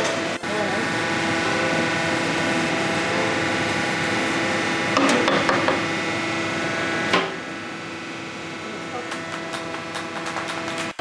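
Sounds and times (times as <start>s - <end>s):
kitchen equipment hum: 0.0s - 11.0s.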